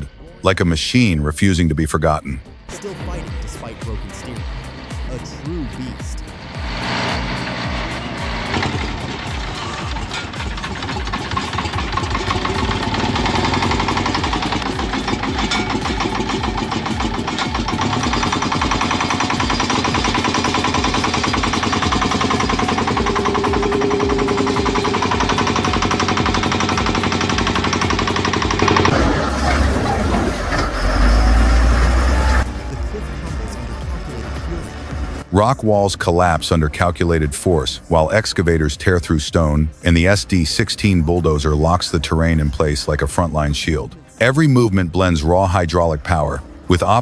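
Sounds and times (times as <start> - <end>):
diesel engine running: 0.0 - 44.2.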